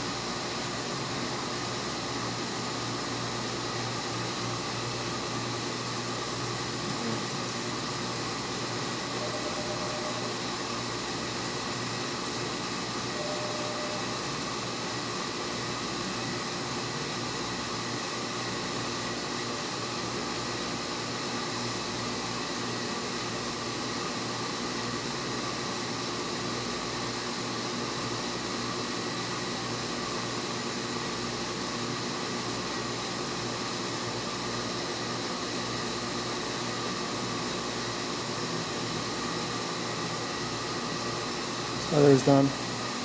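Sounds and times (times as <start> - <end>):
induction heater fan noise and hum: 0.0 - 43.0.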